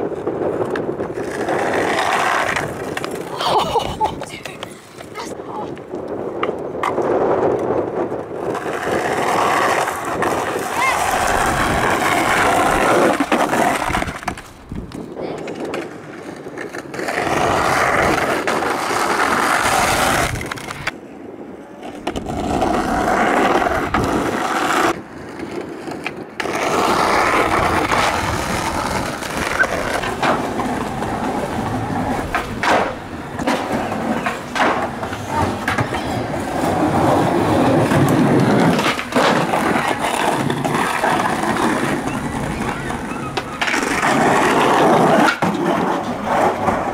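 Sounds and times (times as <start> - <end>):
skateboard wheels rolling on concrete: 0.0 - 46.9
skateboard tail popping and landing: 5.8 - 21.0, 21.8 - 46.9.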